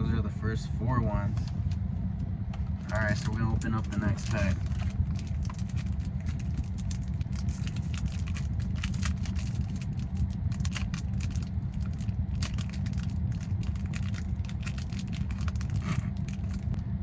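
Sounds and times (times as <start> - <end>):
steady low rumble: 0.0 - 17.0
foil wrapper crinkling: 2.8 - 16.8.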